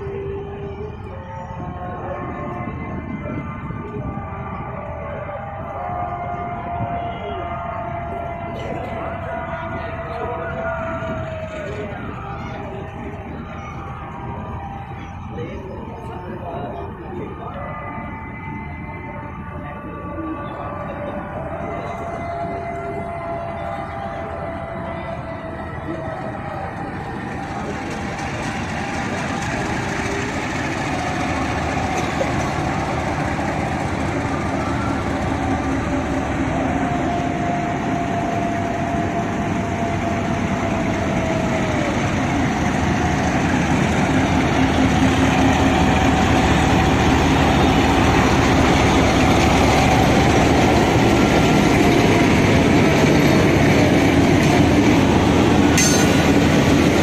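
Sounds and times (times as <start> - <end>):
train rumble and wheel noise: 0.0 - 57.0
wheels squealing on rails: 0.0 - 57.0.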